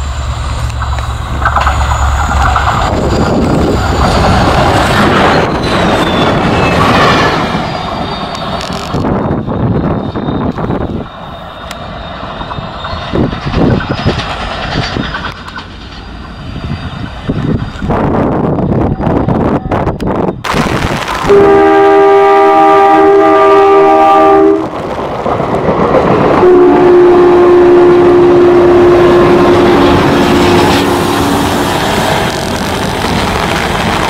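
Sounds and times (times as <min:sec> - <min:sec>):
diesel locomotive engine drone: 0:00.0 - 0:34.0
train wheels and wagons rattling: 0:00.0 - 0:34.0.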